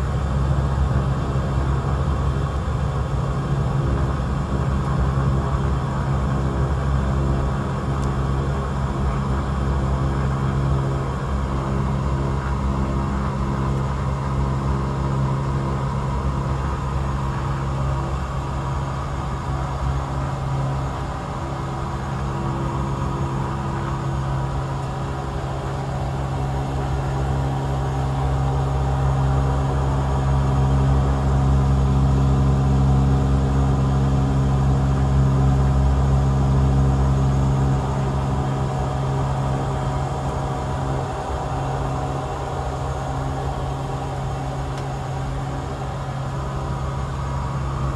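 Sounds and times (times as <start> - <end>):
turboprop engine droning: 0.0 - 47.9.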